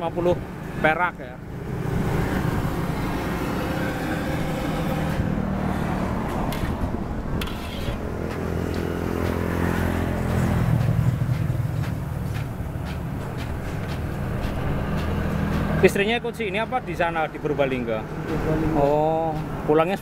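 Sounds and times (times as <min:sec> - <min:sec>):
vehicle engine running: 0:01.4 - 0:20.0.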